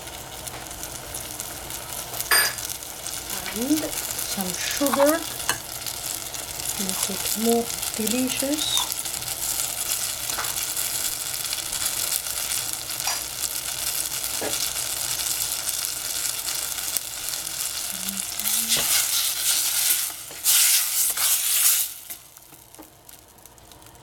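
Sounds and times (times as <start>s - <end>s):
tomatoes sizzling in a pan: 0.0s - 24.0s.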